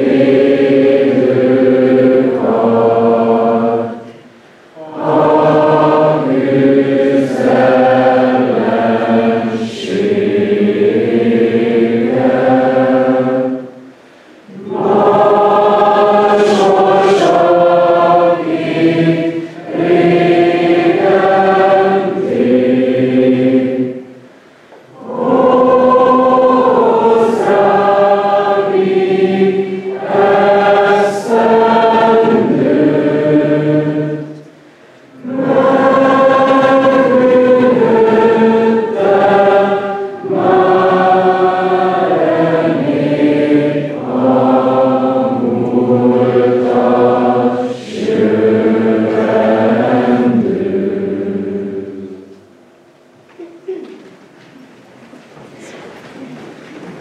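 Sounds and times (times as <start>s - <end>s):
choir singing slow song: 0.0s - 53.8s.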